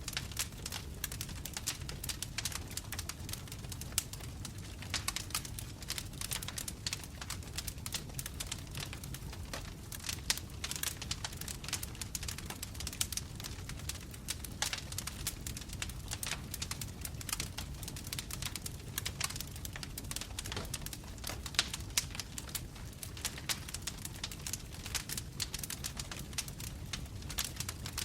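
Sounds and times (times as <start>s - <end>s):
logs crackling in a fireplace: 0.0s - 28.0s
low rumble of flame: 0.0s - 28.0s.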